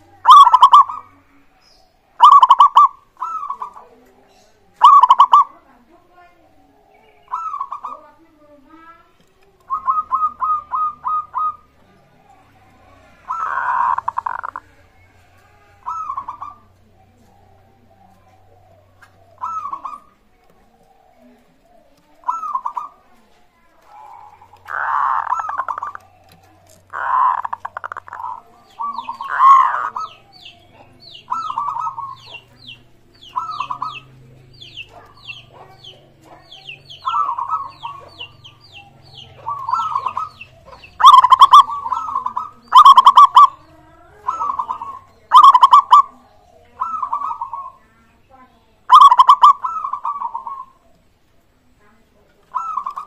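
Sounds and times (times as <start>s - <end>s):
doves cooing: 0.0s - 53.0s.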